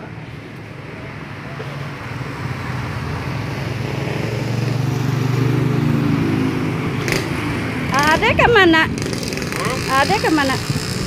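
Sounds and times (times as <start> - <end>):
motorcycle passing by: 1.4 - 11.0.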